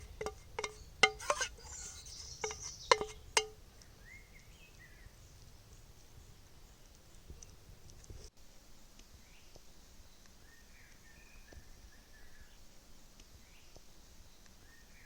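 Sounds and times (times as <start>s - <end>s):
small bird chirping: 0.0s - 8.2s, 8.8s - 15.0s.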